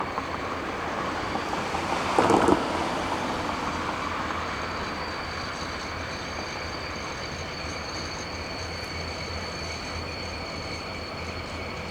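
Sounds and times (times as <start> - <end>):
diesel freight train rumbling: 0.0 - 11.9.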